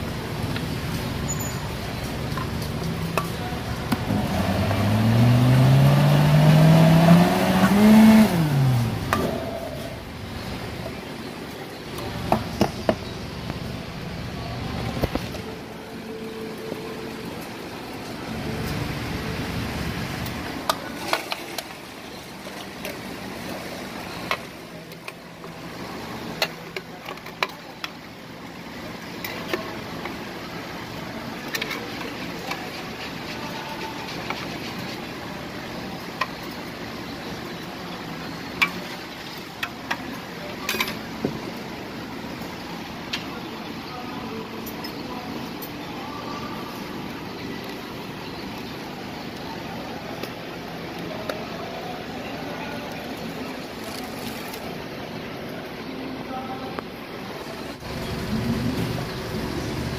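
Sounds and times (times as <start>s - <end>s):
traffic and street noise: 0.0s - 59.9s.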